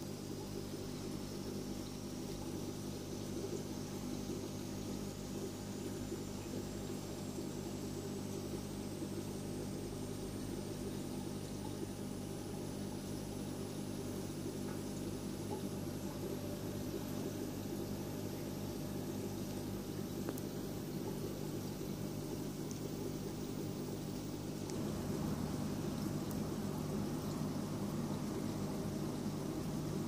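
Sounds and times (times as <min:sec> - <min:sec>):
aquarium pump humming: 0:00.0 - 0:30.0.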